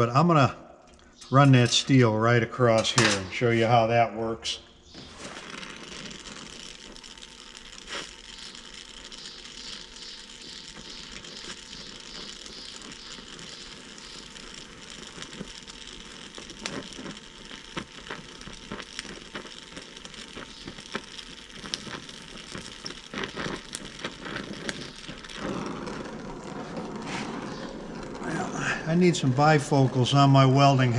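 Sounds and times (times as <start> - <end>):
weld crackling: 0.8 - 30.9
torch flame hissing: 4.9 - 30.9.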